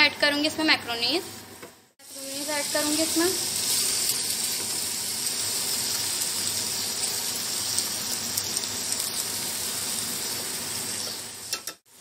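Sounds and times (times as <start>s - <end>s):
chicken and vegetables sizzling: 2.0s - 12.0s.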